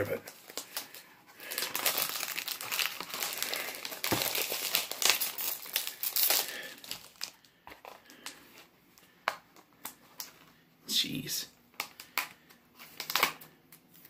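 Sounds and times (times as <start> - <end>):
plastic wrap crinkling: 0.0 - 10.6, 11.7 - 14.0.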